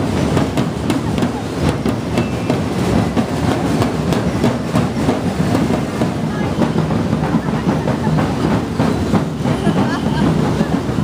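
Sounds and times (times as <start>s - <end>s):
drum band beating large drums: 0.0s - 11.0s.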